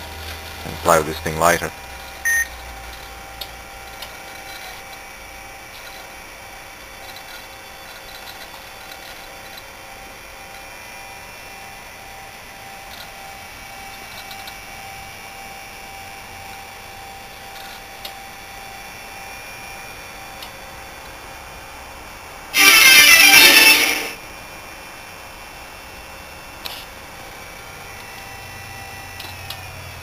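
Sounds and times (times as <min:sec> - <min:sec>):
computer equipment hum and fan: 0:00.0 - 0:30.0.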